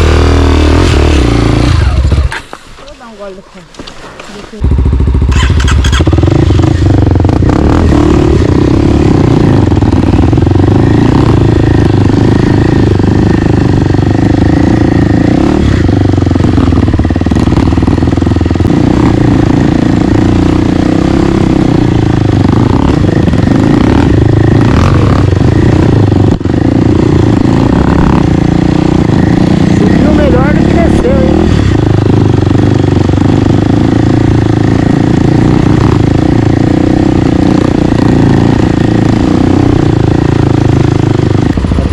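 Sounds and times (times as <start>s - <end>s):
dirt bike engine running: 0.0s - 3.4s, 4.5s - 41.9s.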